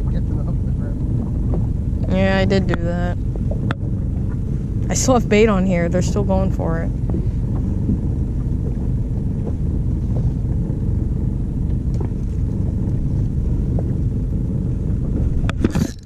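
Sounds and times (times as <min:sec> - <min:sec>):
boat low rumble: 0:00.0 - 0:16.0.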